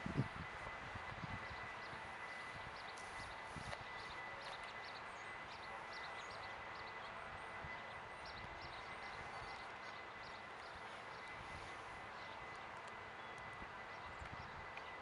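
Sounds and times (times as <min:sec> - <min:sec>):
thin steady high tone: 0:00.0 - 0:15.0.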